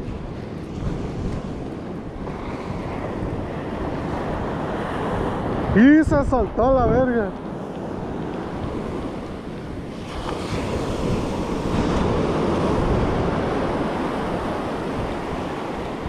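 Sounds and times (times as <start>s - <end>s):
surf breaking on beach: 0.0s - 16.0s
wind on microphone: 0.0s - 16.0s.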